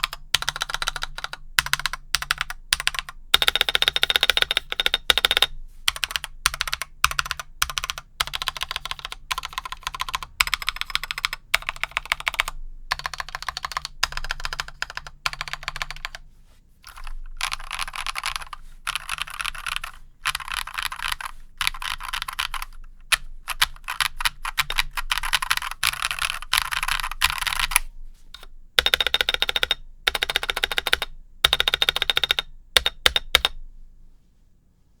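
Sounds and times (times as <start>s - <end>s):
mechanical keyboard typing: 0.0s - 16.2s, 16.9s - 33.6s.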